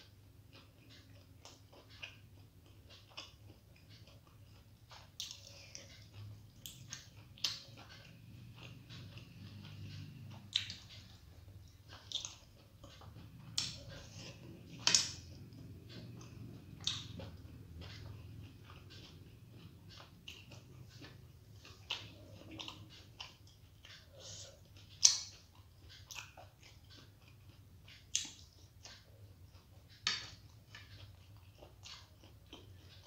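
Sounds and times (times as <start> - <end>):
close-up chewing: 0.0 - 33.0.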